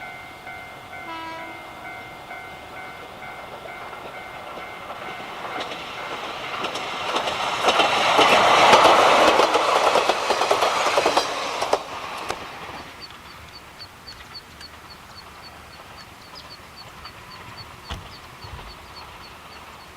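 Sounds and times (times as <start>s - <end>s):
train wheels clicking over rail joints: 2.3s - 19.9s.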